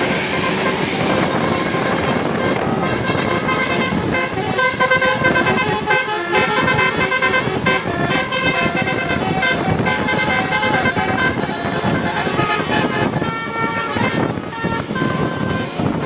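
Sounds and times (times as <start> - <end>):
bus engine and road noise: 0.0 - 16.0
bus musical horn tune: 0.0 - 16.0.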